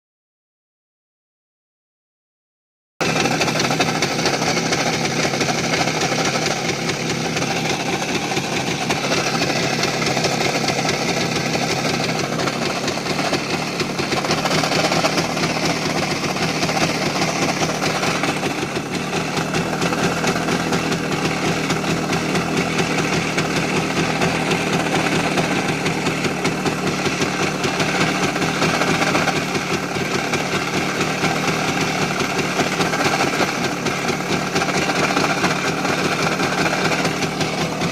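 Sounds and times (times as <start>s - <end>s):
motorcycle engine idling with knock: 3.0s - 37.9s.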